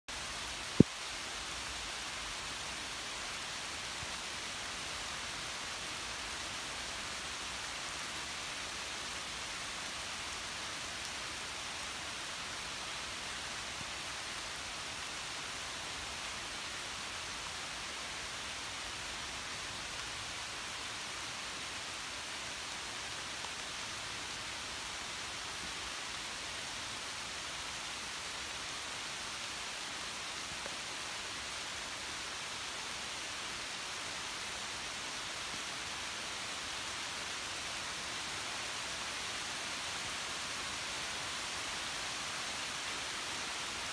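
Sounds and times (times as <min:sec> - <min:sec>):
rain falling on leaves: 0:00.1 - 0:43.9.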